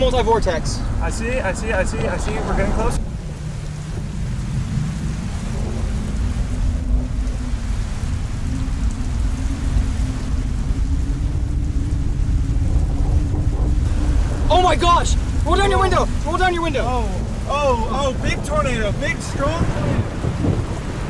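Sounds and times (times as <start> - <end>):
steady hiss: 0.0 - 20.3
car driving heard from inside: 0.0 - 20.9.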